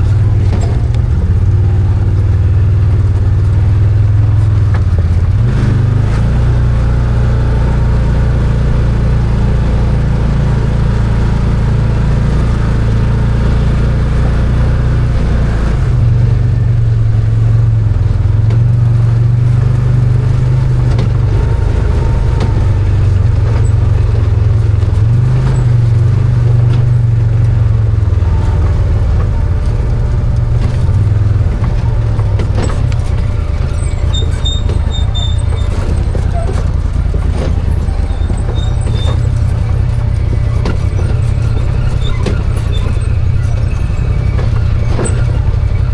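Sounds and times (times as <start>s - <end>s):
engine running under load: 0.0s - 45.9s.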